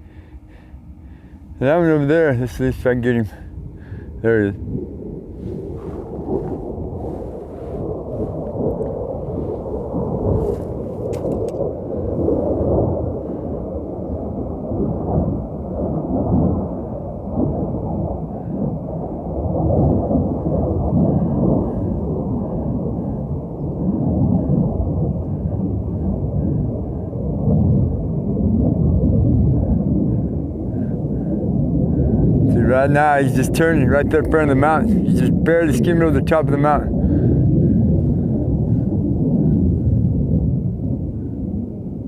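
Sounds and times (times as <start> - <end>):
distant jet engine rumble: 0.0 - 42.0.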